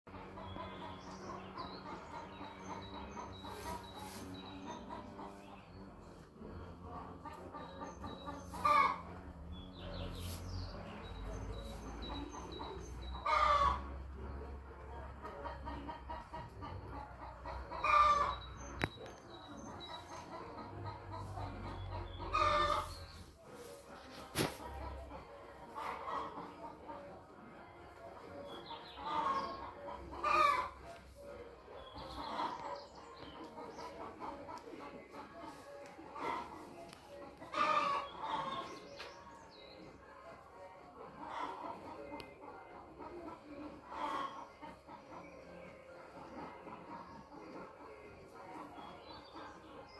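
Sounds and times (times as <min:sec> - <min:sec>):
barnyard animal calls: 0:00.1 - 0:49.9.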